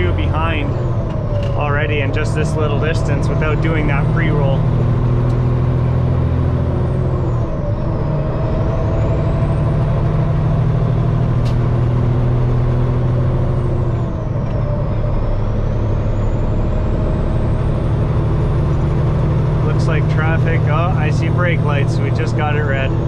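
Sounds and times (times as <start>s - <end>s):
truck diesel engine pulling: 0.0s - 23.0s.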